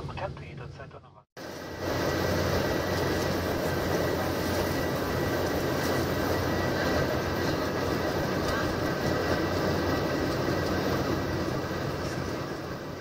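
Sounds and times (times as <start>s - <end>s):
aircraft engine hum in cabin: 0.0s - 13.0s
rushing airflow: 1.4s - 13.0s.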